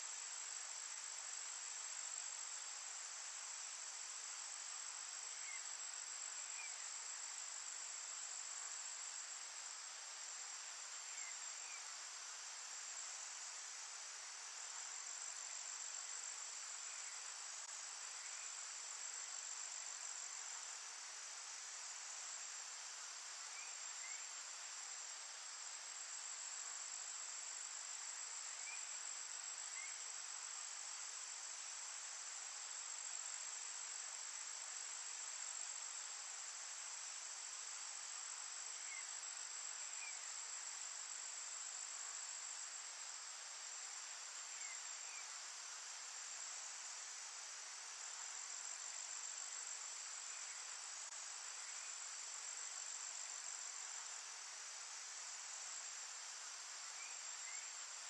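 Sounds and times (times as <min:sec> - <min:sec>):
insects trilling: 0:00.1 - 0:58.0.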